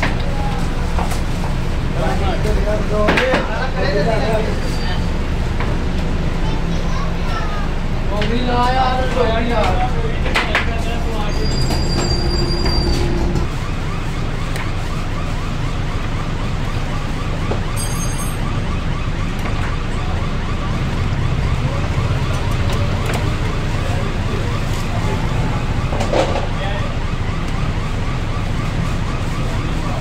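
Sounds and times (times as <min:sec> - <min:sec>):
loud background din: 0:00.0 - 0:30.0.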